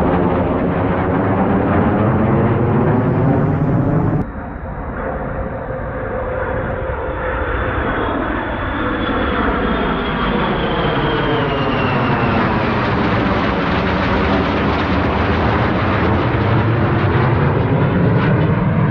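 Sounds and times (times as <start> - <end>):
jet engines roaring overhead: 0.0 - 18.9.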